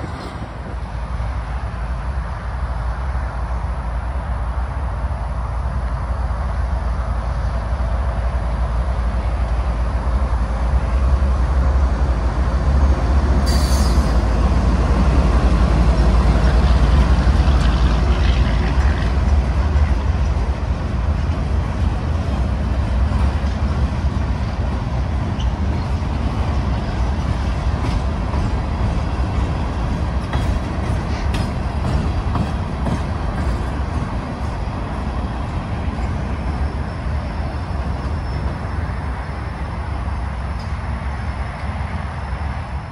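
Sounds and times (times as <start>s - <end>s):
diesel locomotive engine passing: 0.0s - 42.9s
freight cars rumbling on rails: 0.0s - 42.9s.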